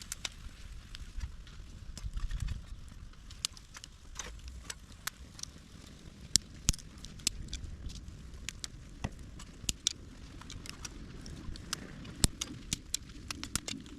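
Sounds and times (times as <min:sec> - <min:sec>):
campfire crackling and popping: 0:00.0 - 0:13.9.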